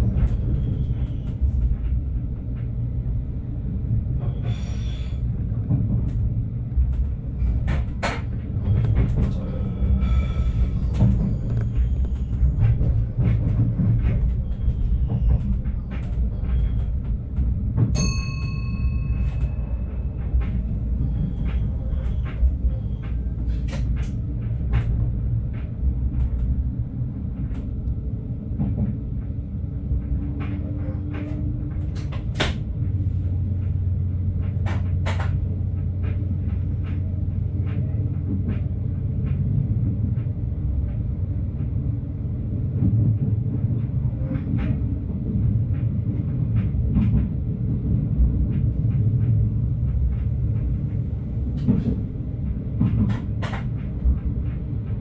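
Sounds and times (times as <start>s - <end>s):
diesel train engine rumbling: 0.0s - 55.0s
wheels clicking on rail joints: 0.0s - 55.0s.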